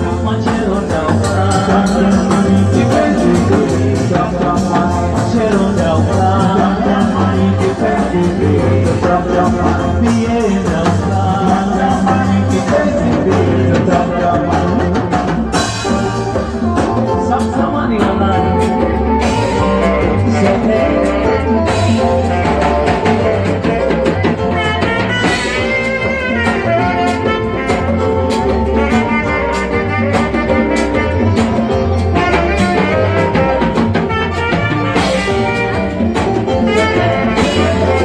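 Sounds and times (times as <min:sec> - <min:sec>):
congas: 0:00.0 - 0:38.0
drum kit: 0:00.0 - 0:38.0
saxophones: 0:00.0 - 0:38.0.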